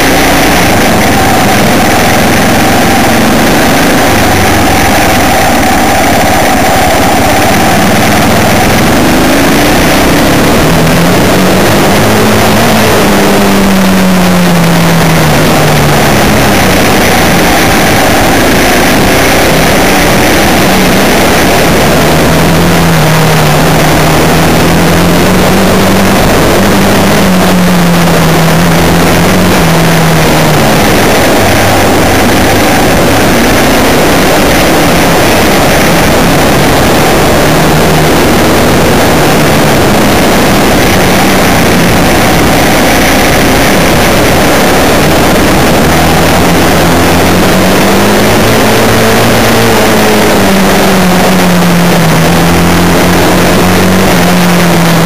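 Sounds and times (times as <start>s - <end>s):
vehicle engine running: 0.0s - 55.0s
wind and road noise rushing: 0.0s - 55.0s.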